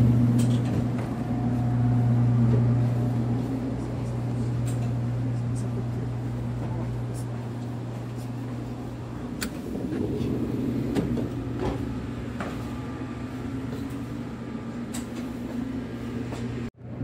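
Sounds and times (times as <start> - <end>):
train interior hum and rumble: 0.0 - 17.0.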